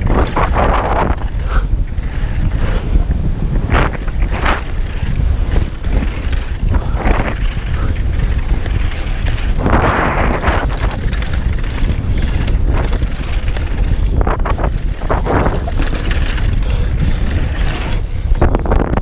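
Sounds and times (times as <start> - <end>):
bike rattling: 0.0 - 19.0
tyres on loose dirt and gravel: 0.0 - 19.0
wind buffeting microphone: 0.0 - 19.0.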